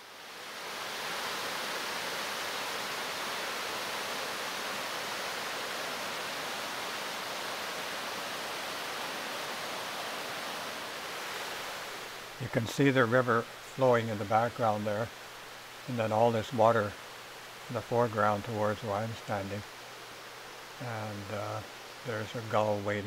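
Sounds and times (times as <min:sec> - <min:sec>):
floodwater rushing: 0:00.3 - 0:23.0.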